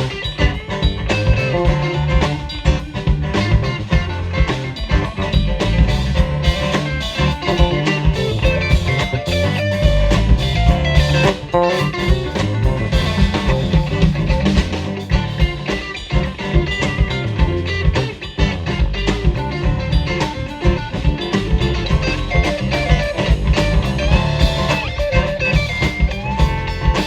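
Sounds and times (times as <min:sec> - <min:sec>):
bass and drums: 0:00.0 - 0:27.0
guitar melody: 0:00.0 - 0:27.0.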